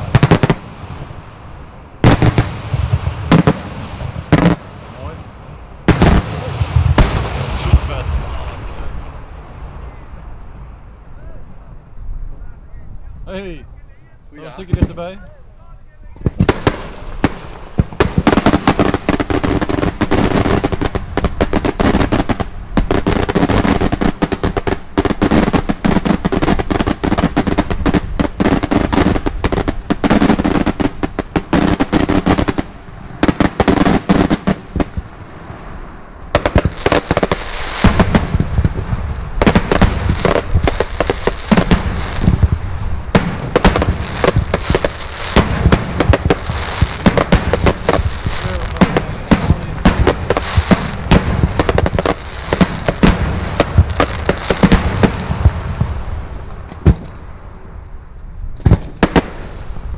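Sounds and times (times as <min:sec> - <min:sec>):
fireworks bangs: 0:00.0 - 0:12.3, 0:14.4 - 0:57.6, 0:58.5 - 0:59.9.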